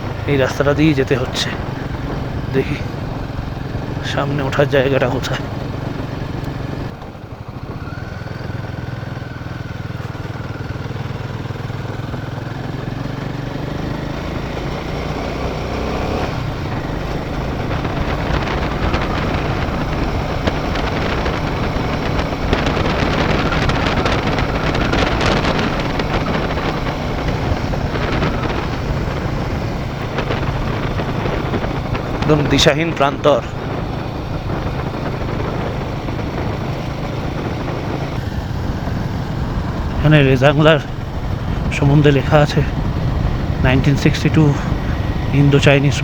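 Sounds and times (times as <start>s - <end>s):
wind noise: 0.0s - 12.6s, 13.2s - 46.0s
motorcycle engine accelerating: 0.0s - 46.0s.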